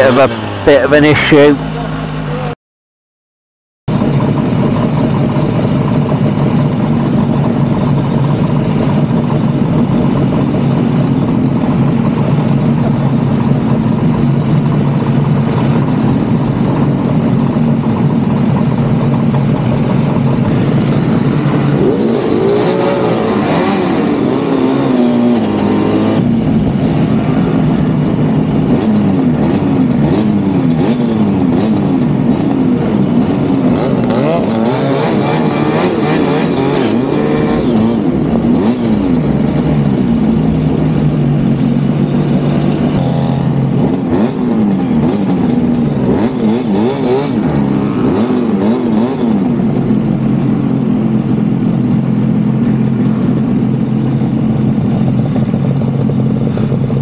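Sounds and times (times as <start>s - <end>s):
motorcycle engines idling and revving: 0.0s - 2.6s, 3.9s - 57.0s.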